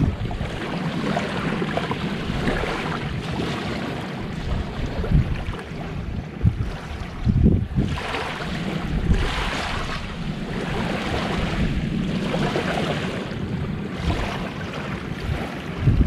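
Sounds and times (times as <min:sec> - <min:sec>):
sea waves washing onto beach: 0:00.0 - 0:16.0
wind rumble on microphone: 0:00.0 - 0:16.0.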